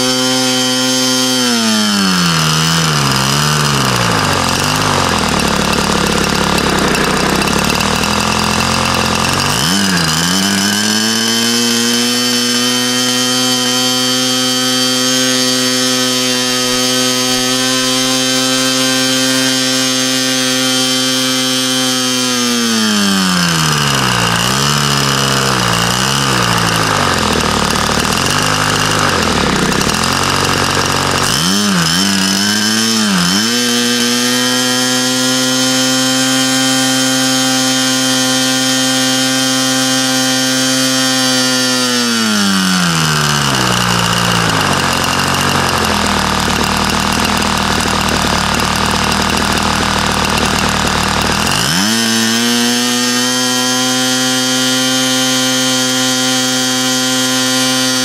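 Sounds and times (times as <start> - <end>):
model engine revving: 0.0 - 58.0.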